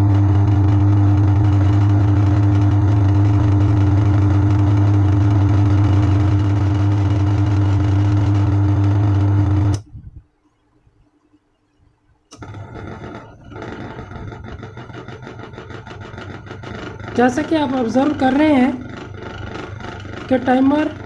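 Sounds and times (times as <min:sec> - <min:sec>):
washing machine motor humming: 0:00.0 - 0:10.4, 0:12.2 - 0:21.0.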